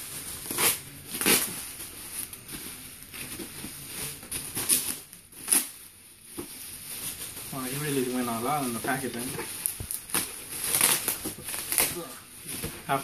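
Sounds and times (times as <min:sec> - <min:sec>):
bubble wrap crinkling and rustling: 0:00.0 - 0:13.0.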